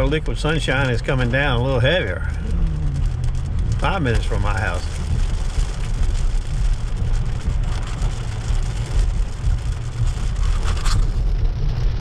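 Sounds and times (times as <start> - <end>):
engine and tyres rumbling: 0.0 - 12.0
rain on windshield and roof: 0.0 - 12.0.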